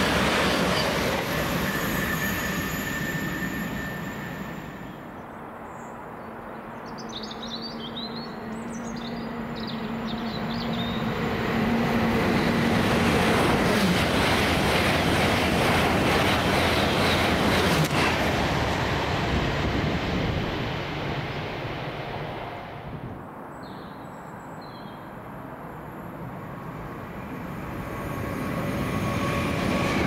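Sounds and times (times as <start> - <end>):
train rumbling past: 0.0 - 5.6, 7.1 - 23.4, 25.3 - 30.0.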